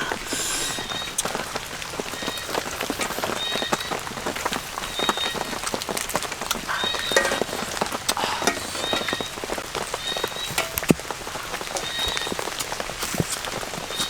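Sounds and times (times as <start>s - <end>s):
crackling patter of clicks: 0.1s - 14.0s.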